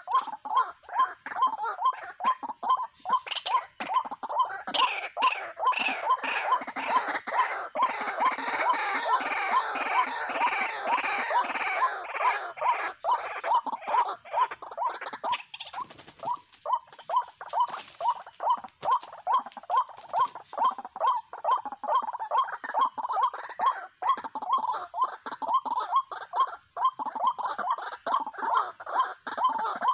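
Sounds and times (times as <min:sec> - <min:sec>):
waterhens croaking: 0:00.0 - 0:29.9.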